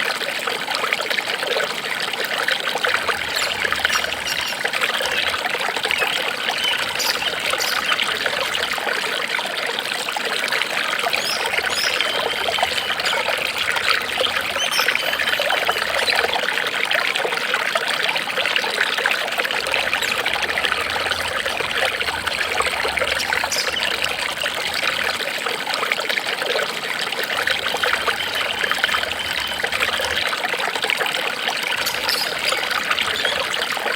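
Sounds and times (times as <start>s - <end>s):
water trickling and babbling: 0.0s - 33.9s.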